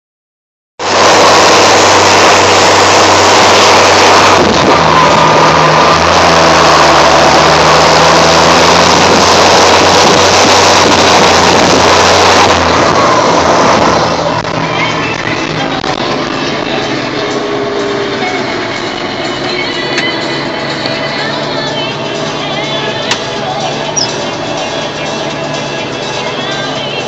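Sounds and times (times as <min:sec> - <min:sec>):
tractor diesel engine running: 0:00.8 - 0:27.0.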